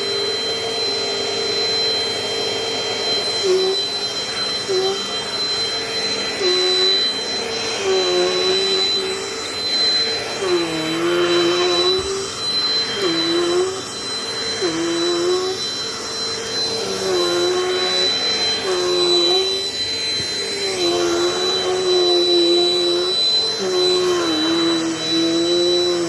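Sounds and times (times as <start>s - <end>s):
vacuum cleaner motor whine: 0.0s - 26.0s.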